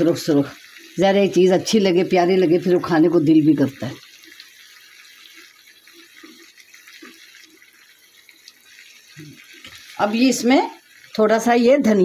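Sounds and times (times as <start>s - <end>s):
potatoes sizzling in a wok: 0.0s - 12.0s.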